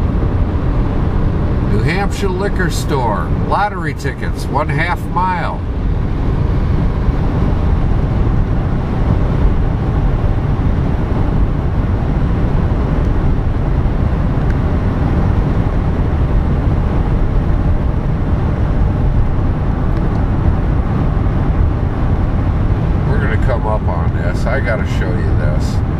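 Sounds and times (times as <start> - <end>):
car cabin road and engine rumble: 0.0 - 25.9.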